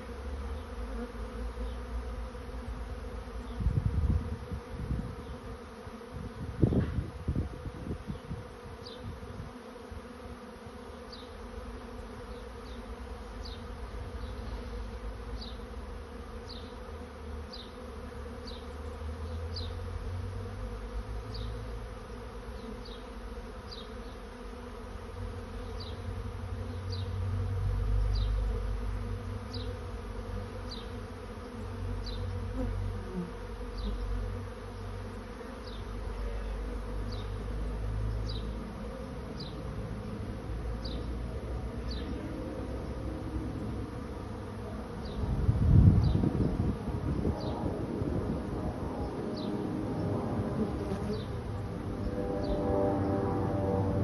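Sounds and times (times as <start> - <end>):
bee swarm humming: 0.0 - 54.0.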